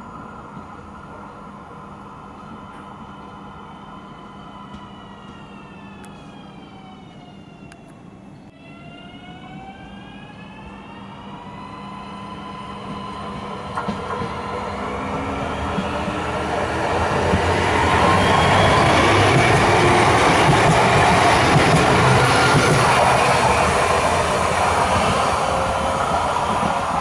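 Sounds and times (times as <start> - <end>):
train running noise: 0.0 - 27.0
electric train drive whine: 2.0 - 27.0.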